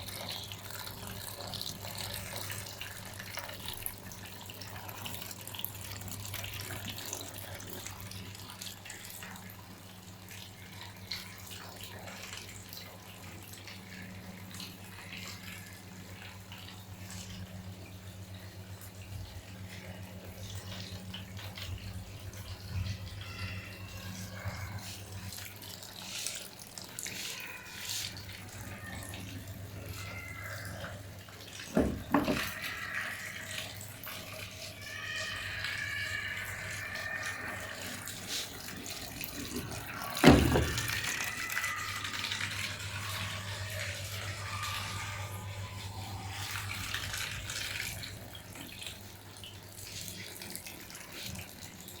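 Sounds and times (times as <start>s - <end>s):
washing machine hum: 0.0s - 52.0s
water running into drum: 0.0s - 52.0s.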